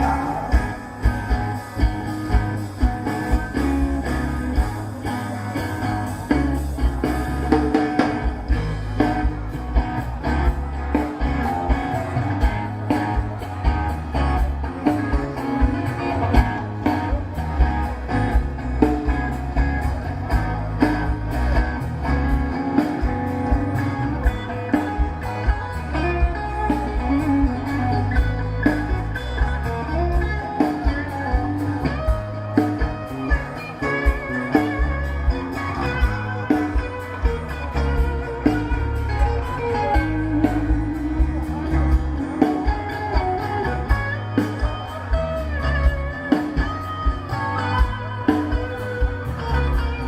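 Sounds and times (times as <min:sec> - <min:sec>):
bass: 0:00.0 - 0:50.0
guitar: 0:00.0 - 0:50.0.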